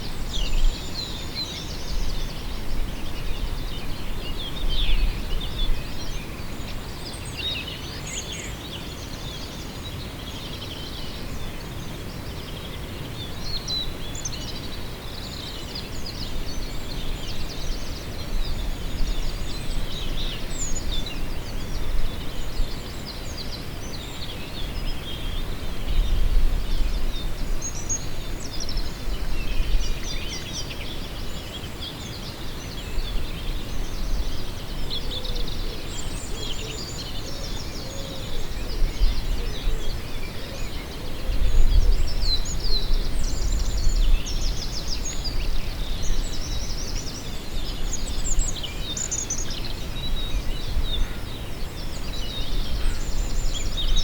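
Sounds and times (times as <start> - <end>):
small birds chirping: 0.0 - 54.0
wind rumble on microphone: 0.0 - 54.0.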